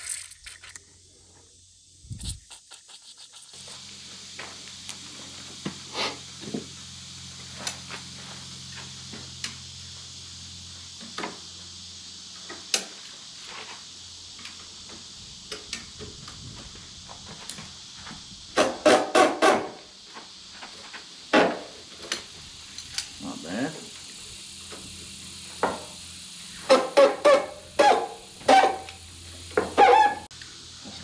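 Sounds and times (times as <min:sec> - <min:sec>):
steady low hum and hiss: 0:00.0 - 0:31.0.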